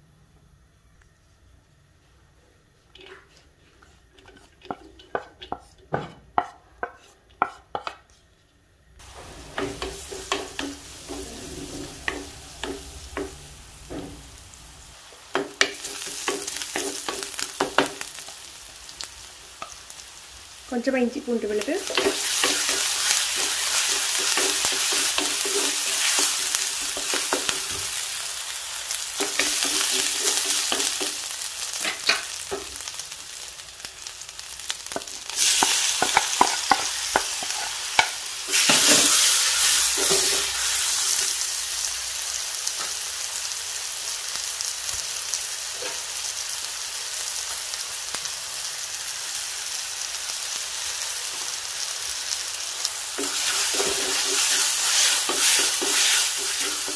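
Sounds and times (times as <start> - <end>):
onions sizzling in oil: 2.7 - 8.3, 9.0 - 56.9.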